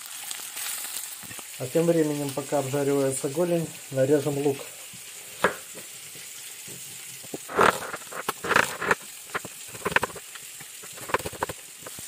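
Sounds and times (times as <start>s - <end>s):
faint frying sizzle: 0.0s - 12.0s.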